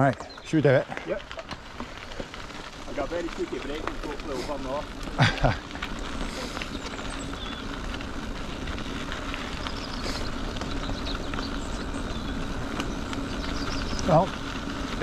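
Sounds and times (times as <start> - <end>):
bike tyres on gravel: 0.0 - 15.0.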